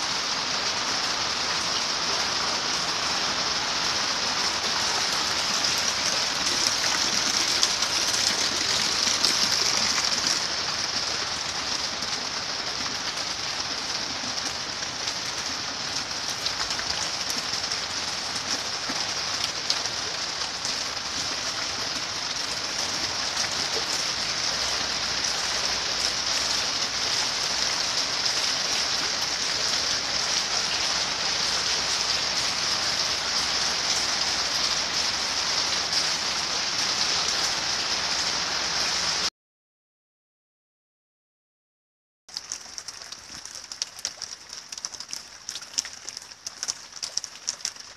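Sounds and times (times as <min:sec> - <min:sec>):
heavy rain on water: 0:00.0 - 0:39.3, 0:42.3 - 0:47.9.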